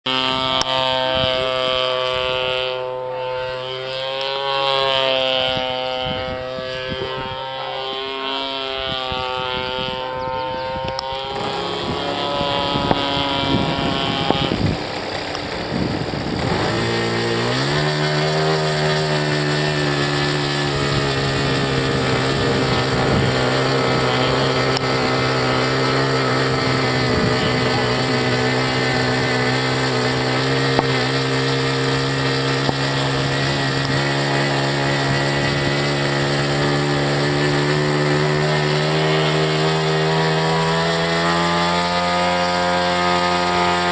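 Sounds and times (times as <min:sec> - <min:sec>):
model airplane engine running: 0:00.0 - 0:43.9.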